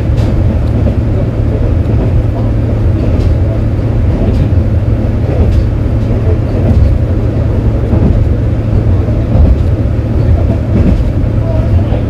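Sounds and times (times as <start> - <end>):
diesel engine drone: 0.0 - 12.0
wheel-on-rail rumble: 0.0 - 12.0.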